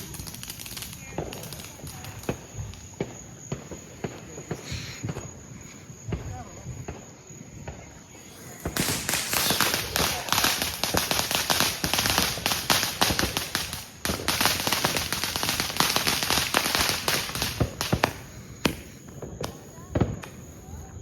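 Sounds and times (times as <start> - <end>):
firecrackers crackling: 0.0 - 21.0.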